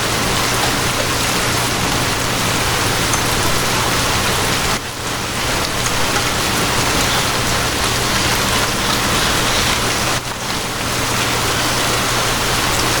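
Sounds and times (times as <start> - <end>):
rainfall: 0.0 - 13.0.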